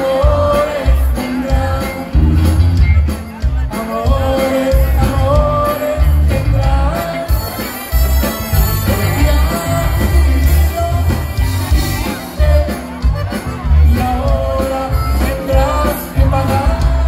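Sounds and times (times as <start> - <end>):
accordion: 0.0 - 17.0
heavy pulsing bass: 0.0 - 17.0
live band playing: 0.0 - 17.0
man singing: 0.0 - 17.0.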